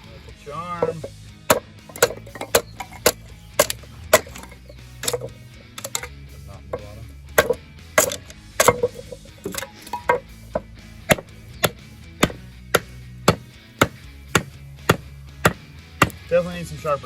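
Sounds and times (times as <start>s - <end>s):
hatchet chopping wood: 0.7s - 6.1s, 6.8s - 16.6s.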